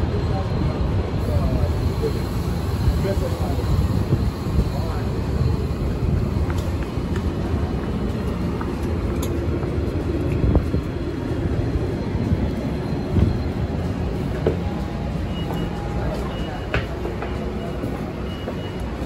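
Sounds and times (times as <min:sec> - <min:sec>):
trolley car low rumble and hum: 0:00.0 - 0:19.0.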